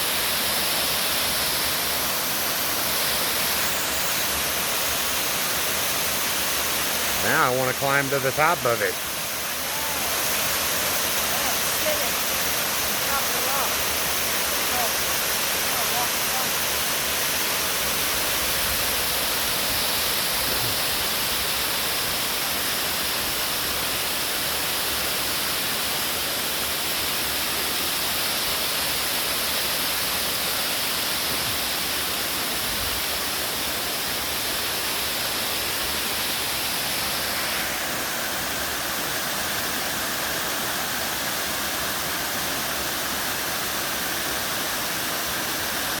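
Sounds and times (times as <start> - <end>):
waterfall roaring: 0.0 - 46.0.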